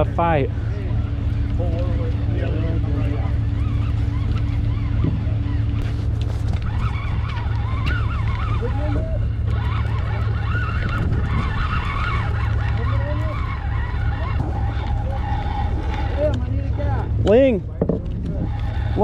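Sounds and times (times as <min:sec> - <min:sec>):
boat engine drone: 0:00.0 - 0:19.0
wavering distant calls: 0:00.4 - 0:19.0.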